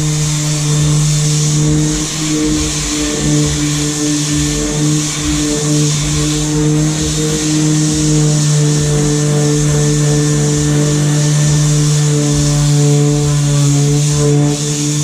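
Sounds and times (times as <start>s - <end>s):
electric power sander running: 0.0s - 15.0s.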